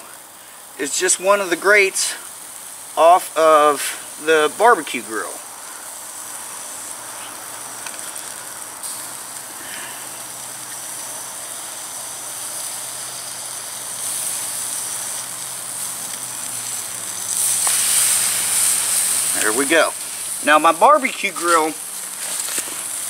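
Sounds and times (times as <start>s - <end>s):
steaks sizzling on grill: 0.0s - 23.0s.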